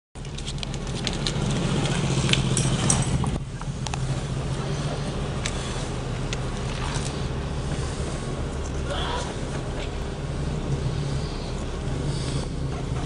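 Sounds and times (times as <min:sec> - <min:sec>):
low mechanical hum: 0:00.2 - 0:13.0.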